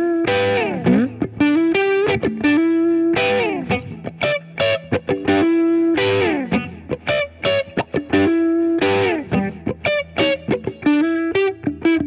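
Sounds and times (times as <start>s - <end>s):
plucked guitar riff with effects: 0.0s - 12.0s.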